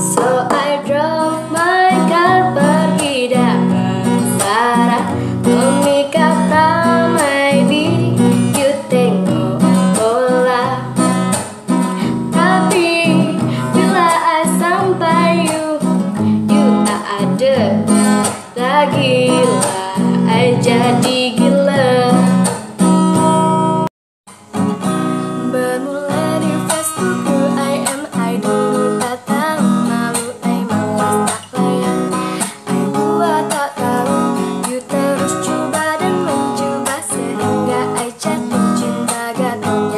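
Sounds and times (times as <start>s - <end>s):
woman singing: 0.0s - 23.7s, 25.1s - 39.9s
strummed acoustic guitar: 0.0s - 39.9s.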